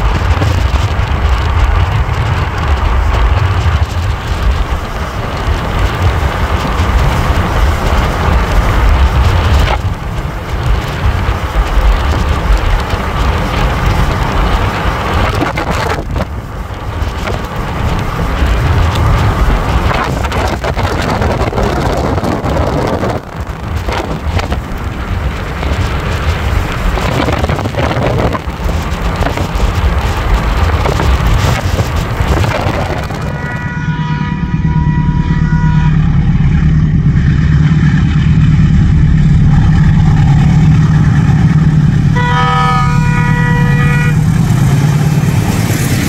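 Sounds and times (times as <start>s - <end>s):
distant freight train rumble: 0.0s - 46.0s
wind buffeting microphone: 0.0s - 46.0s.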